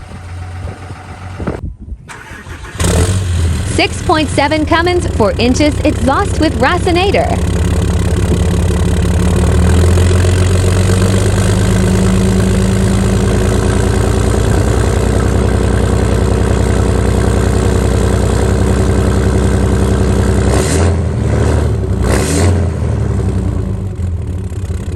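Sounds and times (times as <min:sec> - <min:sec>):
diesel engine idling: 0:00.0 - 0:22.1, 0:22.7 - 0:24.9.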